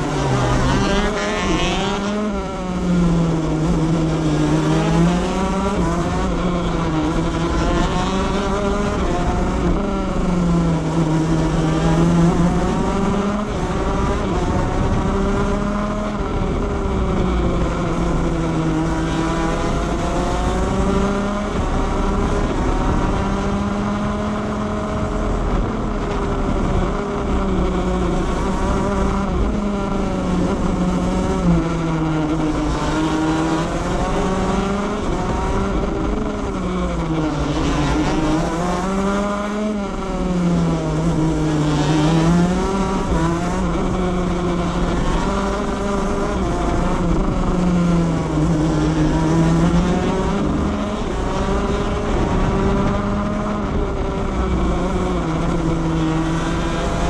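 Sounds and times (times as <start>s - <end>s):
kart engine revving: 0.0s - 57.0s
wind and road noise: 0.0s - 57.0s.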